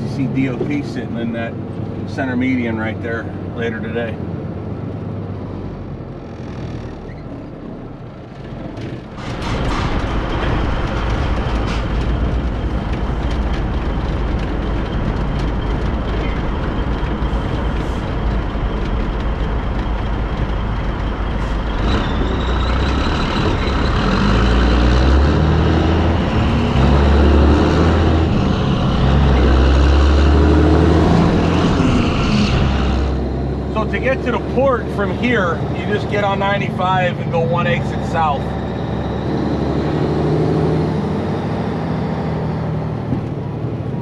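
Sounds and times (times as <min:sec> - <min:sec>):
diesel truck engine revving: 0:00.0 - 0:44.0.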